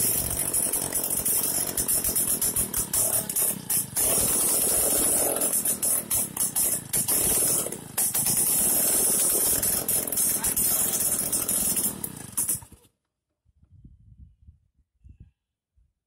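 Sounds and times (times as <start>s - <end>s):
small petrol engine rattling: 0.0s - 13.0s.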